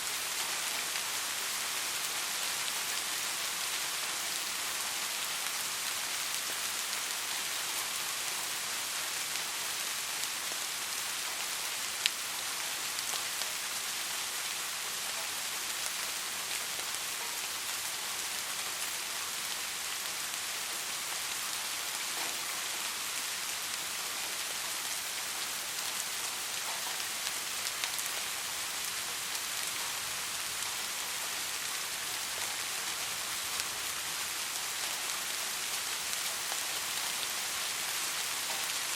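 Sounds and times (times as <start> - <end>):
soft rain hiss: 0.0 - 38.9.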